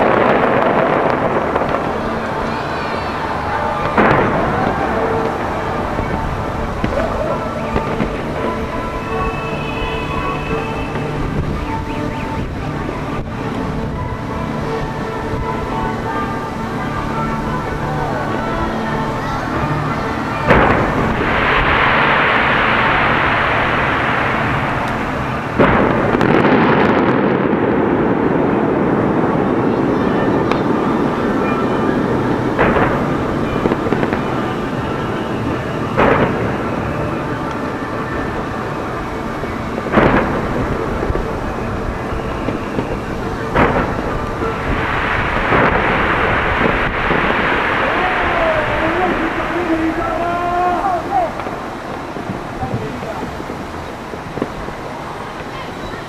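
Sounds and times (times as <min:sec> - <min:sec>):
loud firework bang: 0:00.0 - 0:11.7, 0:19.9 - 0:30.9, 0:32.5 - 0:35.1, 0:35.8 - 0:55.7
fireworks exploding: 0:00.0 - 0:56.0.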